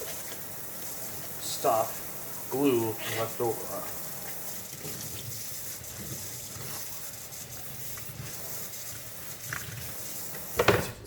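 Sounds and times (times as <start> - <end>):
tap water running: 0.0 - 11.0.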